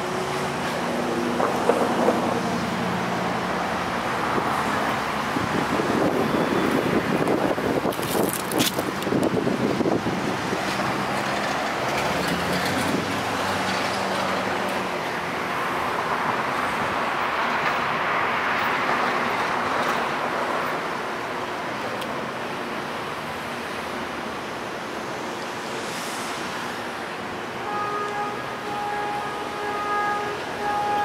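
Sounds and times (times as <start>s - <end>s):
city street traffic: 0.0s - 31.0s.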